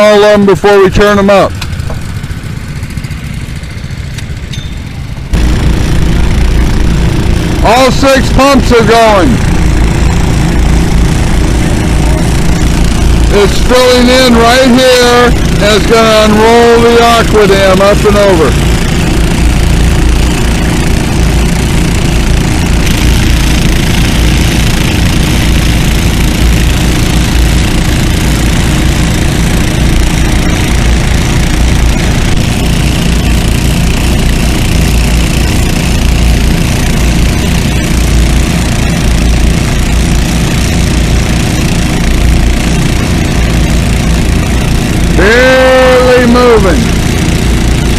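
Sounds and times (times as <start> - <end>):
water pump engines running: 0.0 - 47.9.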